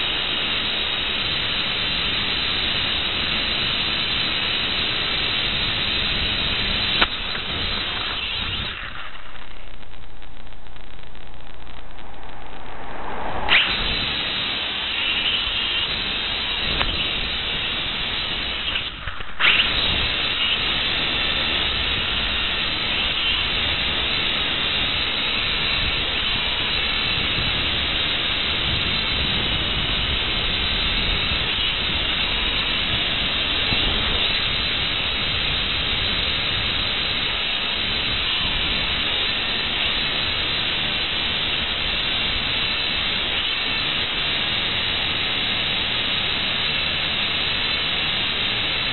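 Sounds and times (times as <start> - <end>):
drone motors hissing: 0.0 - 48.9.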